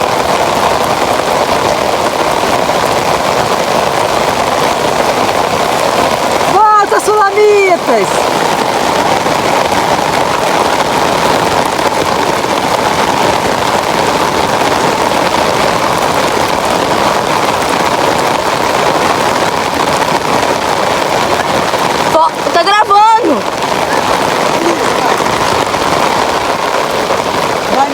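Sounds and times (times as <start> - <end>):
rain pouring down: 0.0 - 27.9.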